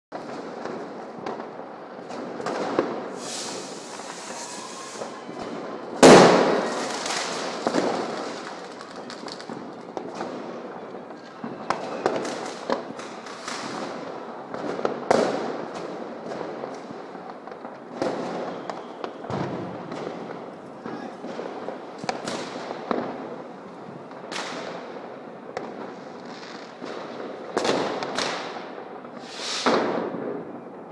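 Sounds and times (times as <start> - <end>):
distant fireworks bangs and crackles: 0.1 - 30.9
loud nearby firework bangs: 0.1 - 30.9.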